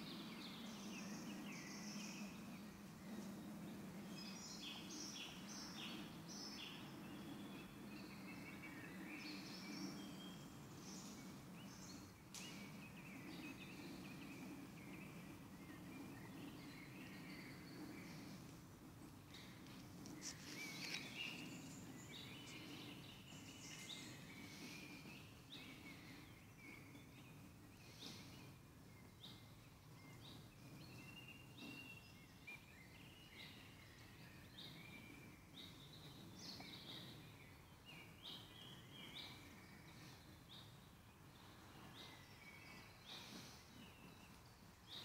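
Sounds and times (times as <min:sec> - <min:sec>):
birds chirping and trilling: 0:00.0 - 0:45.0
quiet background noise: 0:00.0 - 0:45.0.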